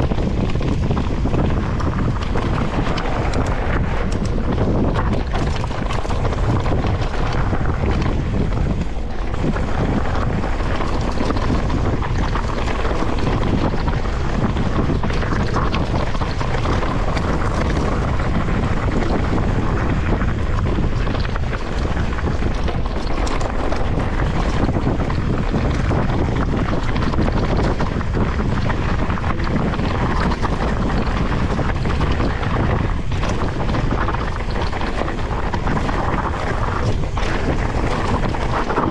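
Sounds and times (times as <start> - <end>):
bike ticks and rattles: 0.0 - 38.9
wind buffeting microphone: 0.0 - 38.9.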